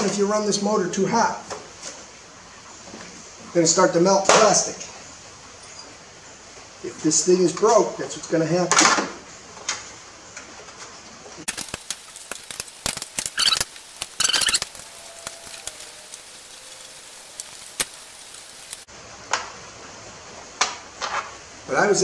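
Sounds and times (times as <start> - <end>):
faint even hiss: 0.0 - 22.0.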